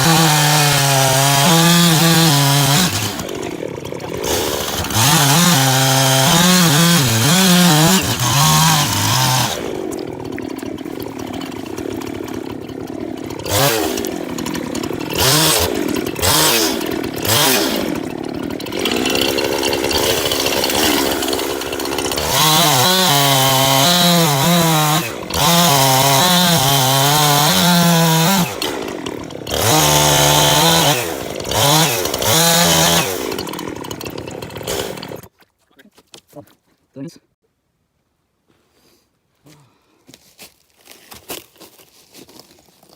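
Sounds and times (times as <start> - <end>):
chainsaw revving and cutting wood: 0.0 - 35.3.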